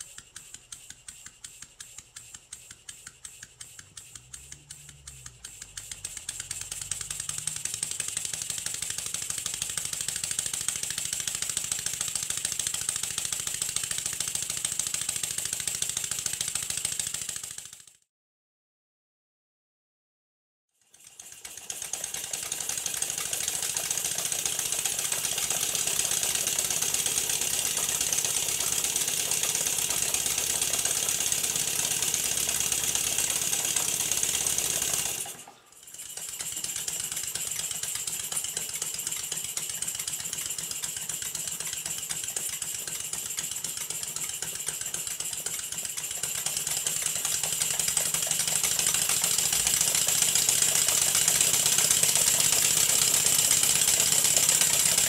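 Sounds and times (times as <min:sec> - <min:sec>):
model steam engines puffing and clattering: 0:00.0 - 0:17.9, 0:20.8 - 0:55.0.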